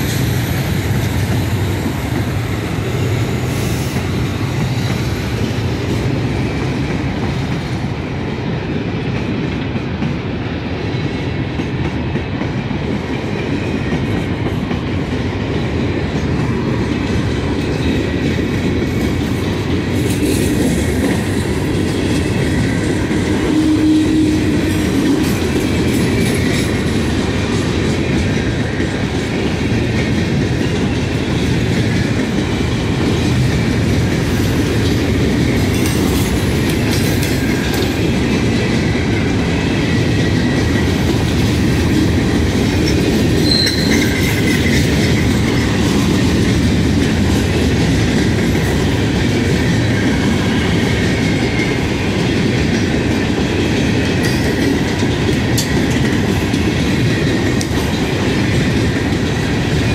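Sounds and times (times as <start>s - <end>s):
clickety-clack over rail joints: 0.0s - 59.9s
freight train wheels rumbling: 0.0s - 59.9s.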